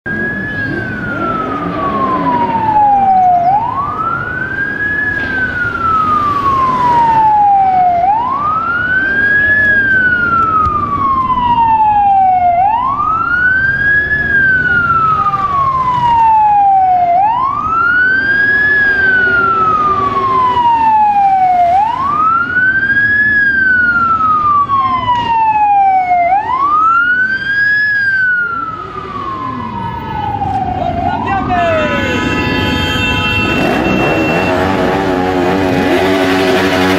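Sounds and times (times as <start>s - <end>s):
police siren wailing: 0.0s - 36.9s
low rumble of motorcycles and cars: 0.1s - 36.9s.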